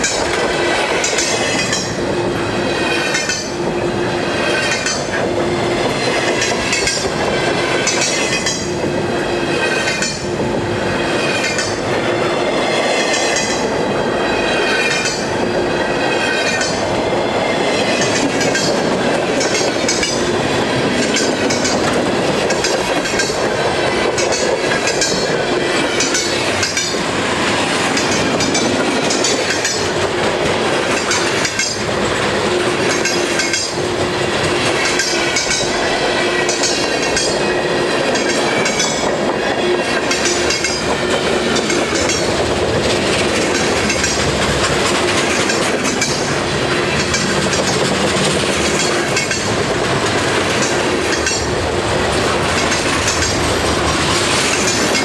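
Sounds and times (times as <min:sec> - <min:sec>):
wheels clickety-clack: 0:00.0 - 0:02.1, 0:02.7 - 0:03.6, 0:04.4 - 0:10.3, 0:11.2 - 0:13.8, 0:14.5 - 0:55.0
freight train rumbling by: 0:00.0 - 0:55.0.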